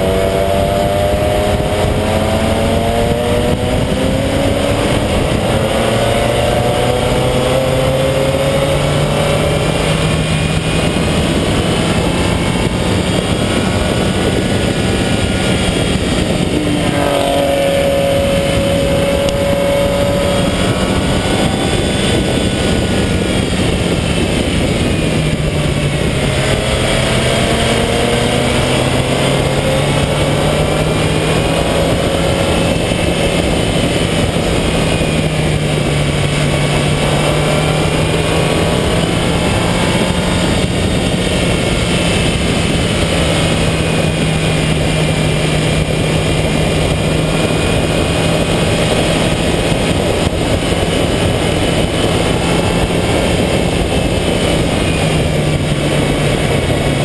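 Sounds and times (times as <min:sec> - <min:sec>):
race car engine accelerating: 0:00.0 - 0:57.0
wind and road noise: 0:00.0 - 0:57.0.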